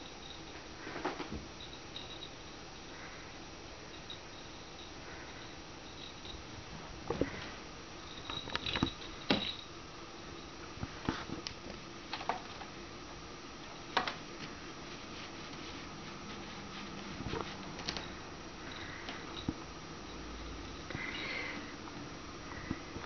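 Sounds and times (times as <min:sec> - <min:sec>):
faint room hum: 0:00.0 - 0:23.0.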